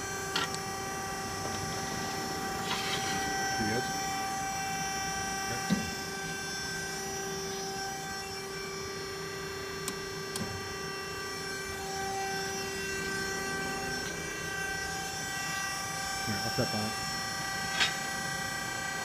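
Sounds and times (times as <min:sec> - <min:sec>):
hydraulic pump motor humming: 0:00.0 - 0:19.0.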